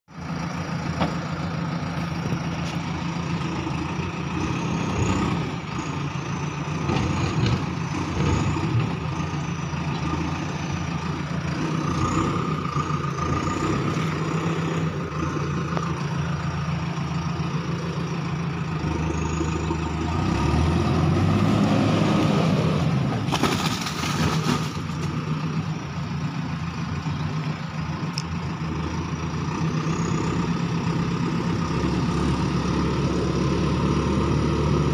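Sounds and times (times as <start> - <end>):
backhoe diesel engine running: 0.1 - 34.9.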